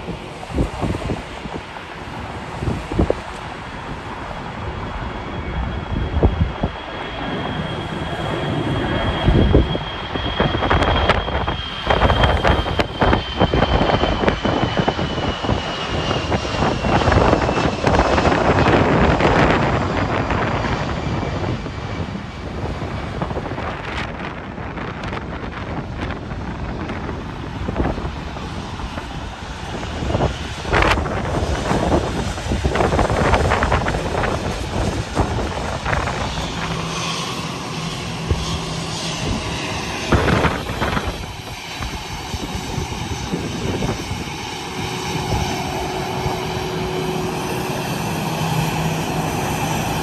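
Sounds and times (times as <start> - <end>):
jet airliner roar: 0.0 - 50.0
jet engine whine: 0.0 - 50.0
wind buffeting microphone: 0.0 - 50.0.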